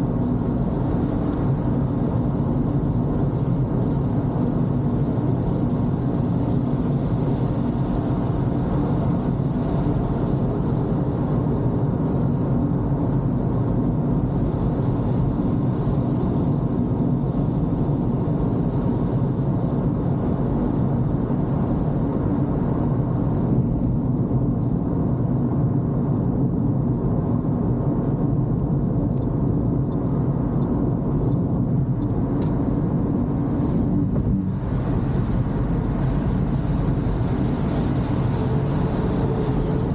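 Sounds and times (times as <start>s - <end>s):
car road and engine hum: 0.0s - 39.9s.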